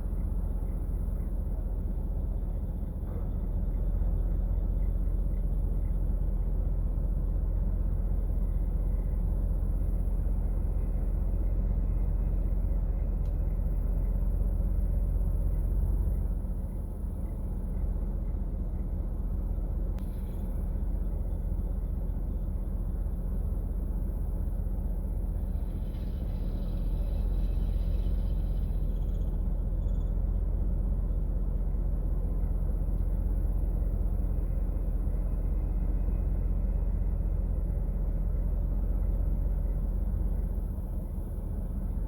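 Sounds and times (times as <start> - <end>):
low rumble of vehicles: 0.0 - 42.0.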